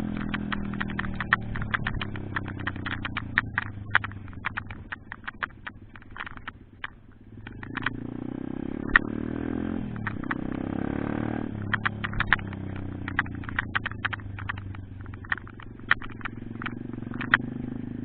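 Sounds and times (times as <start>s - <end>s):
motorbike engine running: 0.0s - 18.0s
sharp irregular clicks: 0.0s - 18.0s.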